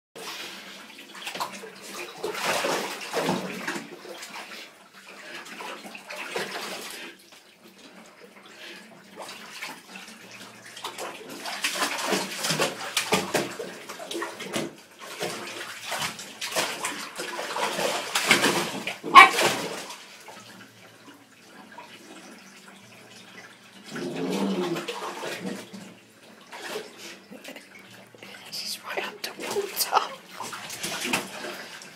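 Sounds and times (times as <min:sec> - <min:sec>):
bath water splashing: 0:00.2 - 0:07.1, 0:09.1 - 0:31.9.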